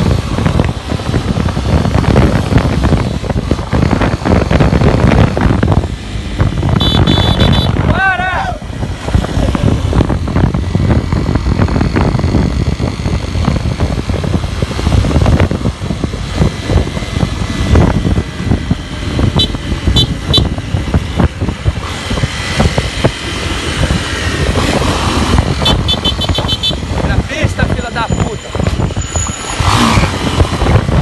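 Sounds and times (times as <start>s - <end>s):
motorcycle engine running: 0.0s - 8.0s, 8.6s - 31.0s
wind buffeting microphone: 0.0s - 31.0s.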